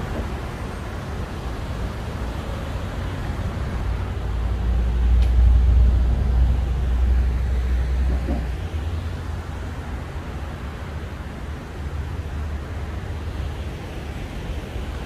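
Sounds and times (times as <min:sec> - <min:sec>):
vehicle and road rumble: 0:00.0 - 0:15.0.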